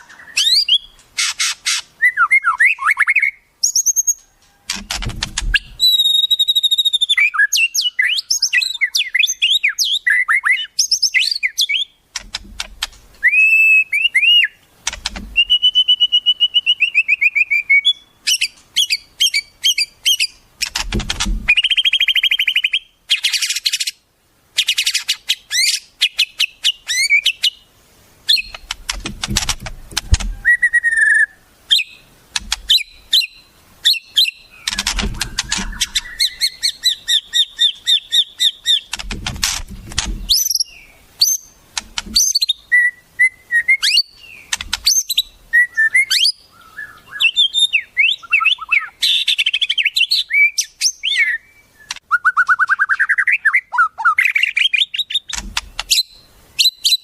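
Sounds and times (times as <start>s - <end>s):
songbird whistles and trills: 0.0s - 12.0s, 13.2s - 20.8s, 21.4s - 24.0s, 24.6s - 29.0s, 30.0s - 39.0s, 40.2s - 57.0s.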